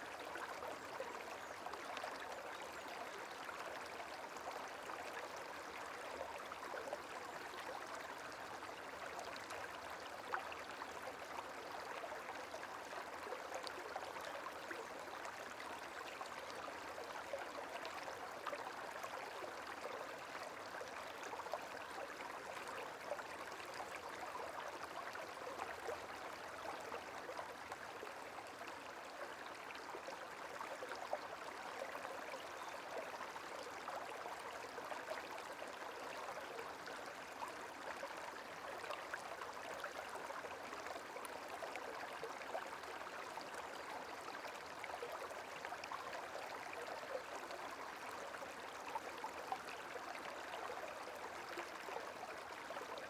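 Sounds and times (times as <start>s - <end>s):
water trickling and babbling: 0.0s - 53.0s.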